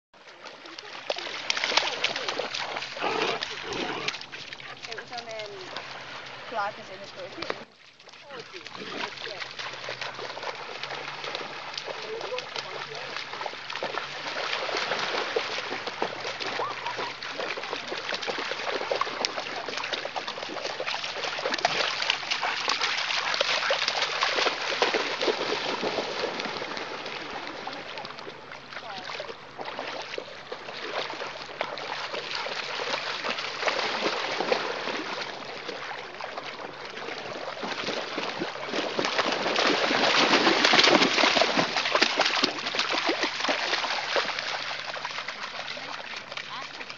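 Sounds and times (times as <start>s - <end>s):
dogs splashing through water: 0.2s - 46.9s.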